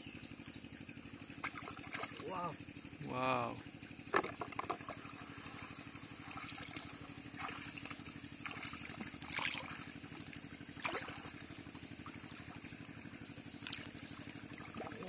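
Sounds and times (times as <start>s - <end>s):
small engine running: 0.0s - 15.0s
shallow water splashing: 1.3s - 2.6s, 4.0s - 15.0s.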